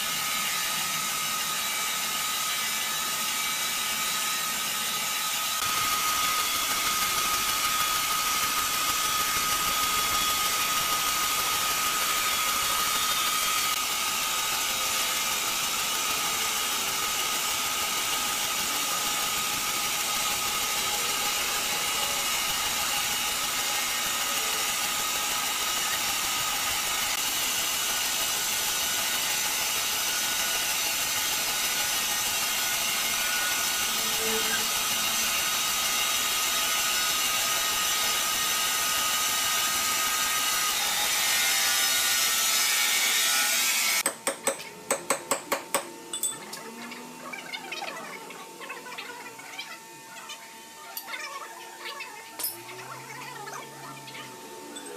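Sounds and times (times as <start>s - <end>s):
band sawmill running: 0.0s - 44.2s.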